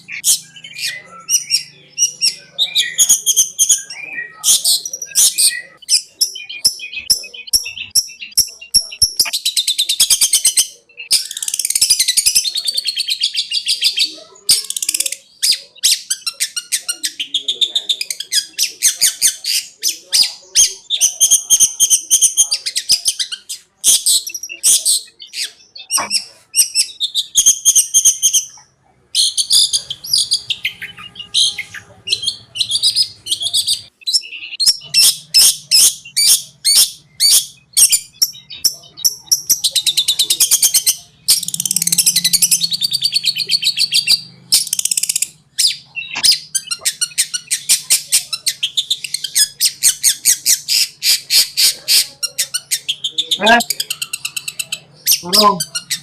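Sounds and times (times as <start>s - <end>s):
bird singing chattering song: 0.0s - 56.0s.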